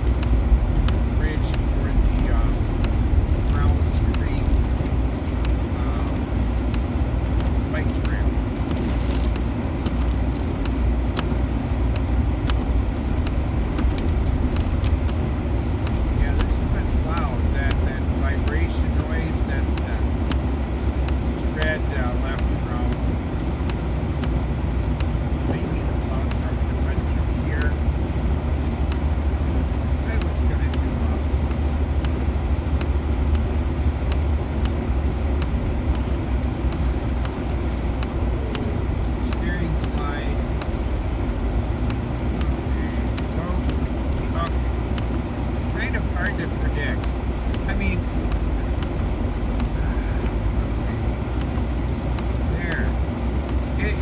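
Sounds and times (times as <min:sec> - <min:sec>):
engine rumble: 0:00.0 - 0:54.0
light clicks: 0:00.0 - 0:54.0
tyres rumbling on road: 0:00.0 - 0:54.0.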